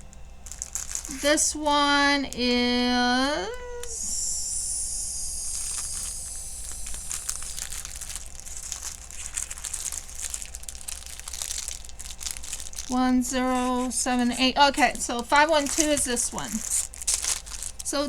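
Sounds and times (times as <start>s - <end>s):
plastic baggies crinkling: 0.0s - 18.0s.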